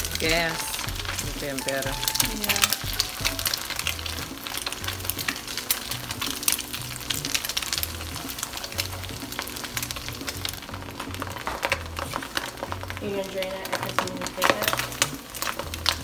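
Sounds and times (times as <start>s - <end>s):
background music with bass line: 0.0s - 16.0s
eggs sizzling in hot oil: 0.0s - 16.0s
spatula stirring in wok: 0.0s - 16.0s.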